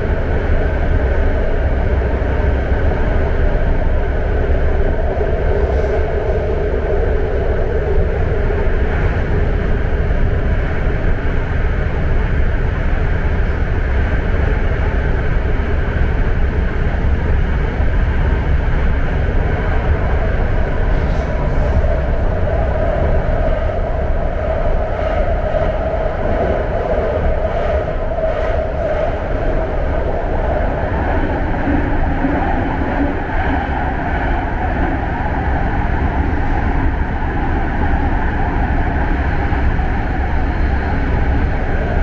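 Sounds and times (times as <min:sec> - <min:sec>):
train hum: 0:00.0 - 0:42.0
train wheels rumbling on rail: 0:00.0 - 0:42.0.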